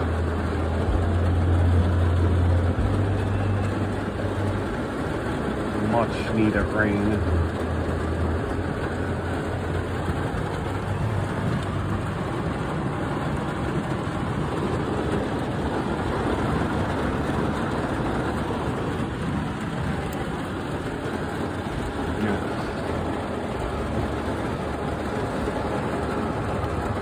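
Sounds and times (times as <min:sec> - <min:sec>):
heavy rain on vehicle roof: 0:00.0 - 0:27.0.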